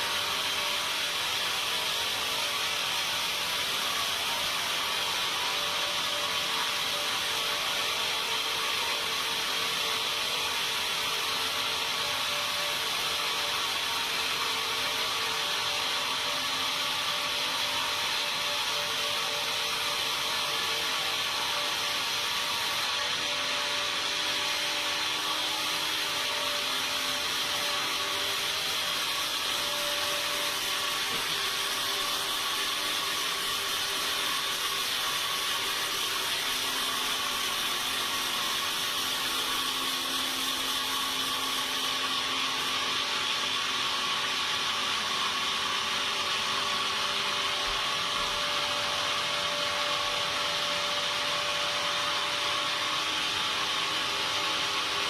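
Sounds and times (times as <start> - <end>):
saw cutting through timber: 0.0 - 55.0.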